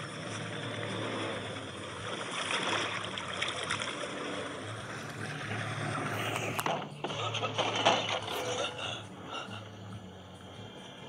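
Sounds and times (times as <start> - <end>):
low engine hum: 0.0 - 11.0
water rushing around boat: 0.0 - 11.0.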